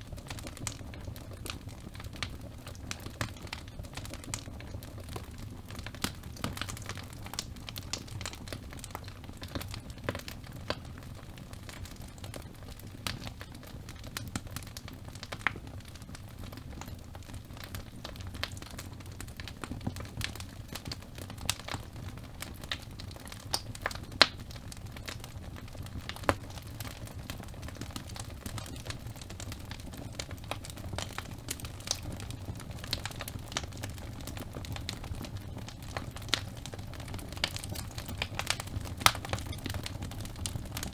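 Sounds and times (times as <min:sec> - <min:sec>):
burning logs crackling: 0:00.0 - 0:40.9
fire rumbling: 0:00.0 - 0:40.9.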